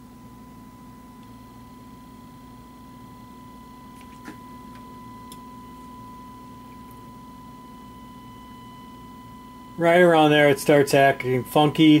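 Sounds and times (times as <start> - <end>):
sine test tone: 0.0 - 12.0.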